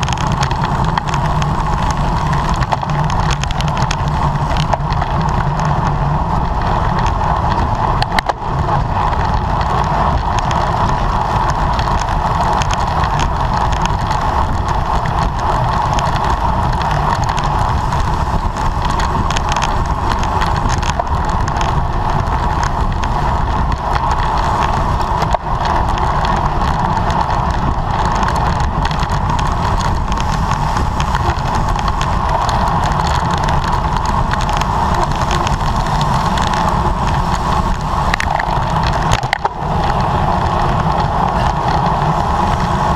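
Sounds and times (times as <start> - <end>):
mid-pitched hum: 0.0 - 42.9
wind and road noise: 0.0 - 42.9.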